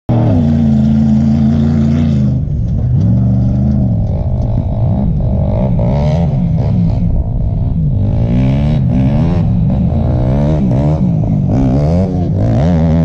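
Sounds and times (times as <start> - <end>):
atv engine revving: 0.1 - 13.0.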